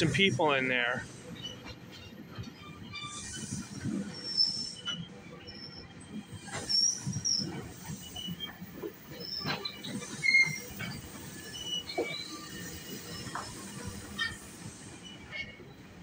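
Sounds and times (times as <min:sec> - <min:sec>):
train wheels rumbling on rail: 0:00.0 - 0:16.0
high-pitched wheel squeals: 0:01.4 - 0:15.6.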